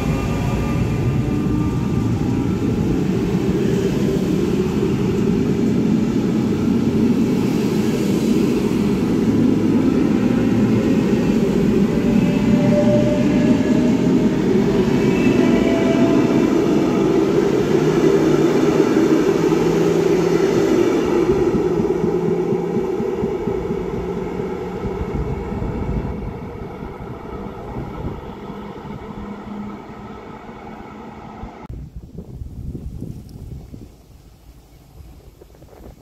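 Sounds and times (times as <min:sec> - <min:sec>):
train rumbling and whining: 0:00.0 - 0:32.9.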